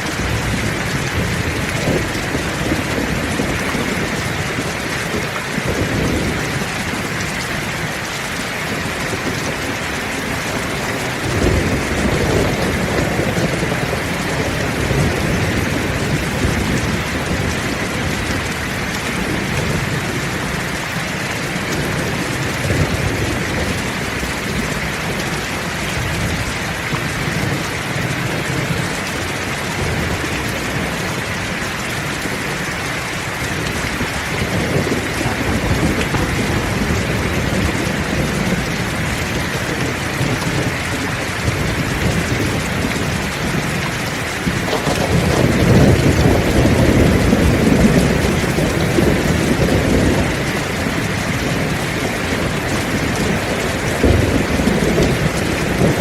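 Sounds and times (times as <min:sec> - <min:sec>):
heavy rain: 0:00.0 - 0:56.0
low rolling thunder: 0:00.0 - 0:56.0.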